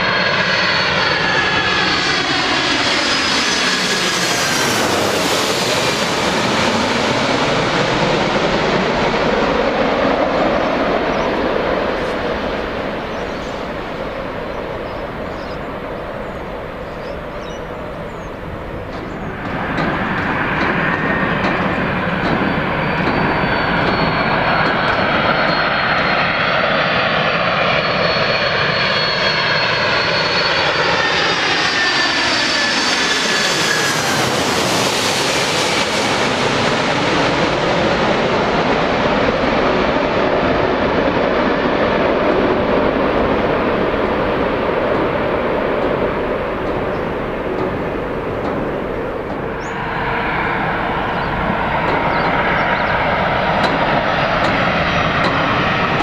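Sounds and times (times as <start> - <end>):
jet airliner flying past: 0.0 - 56.0.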